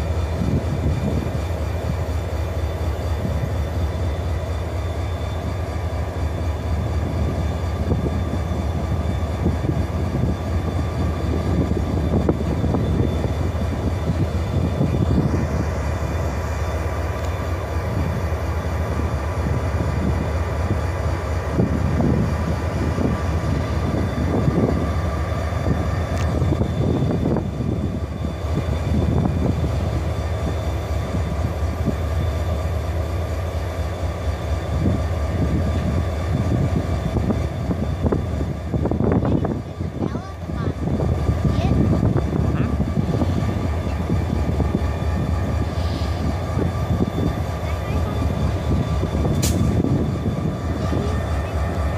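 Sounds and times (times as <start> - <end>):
diesel locomotive engines rumbling: 0.0 - 51.9
train wheels on rails: 0.0 - 51.9.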